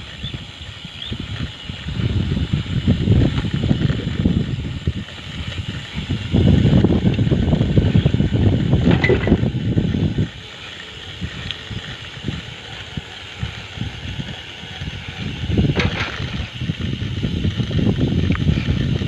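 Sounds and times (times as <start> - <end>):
bicycle clicks and rattles: 0.0 - 19.0
wind buffeting microphone: 0.0 - 19.0.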